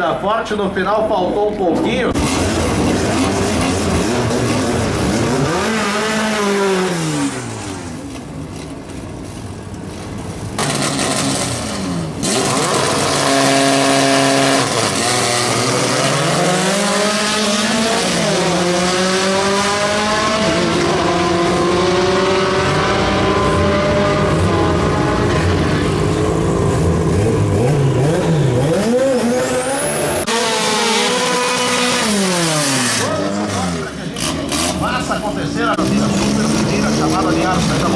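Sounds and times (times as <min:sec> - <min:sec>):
car engines revving: 0:00.0 - 0:37.9
cars accelerating through gears: 0:02.1 - 0:08.0, 0:10.6 - 0:37.9.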